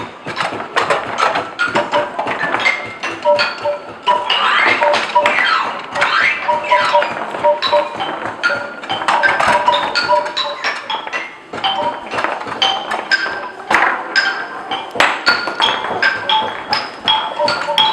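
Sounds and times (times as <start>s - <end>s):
sharp wooden knocks: 0.0s - 17.9s
xylophone-like music: 0.0s - 17.9s.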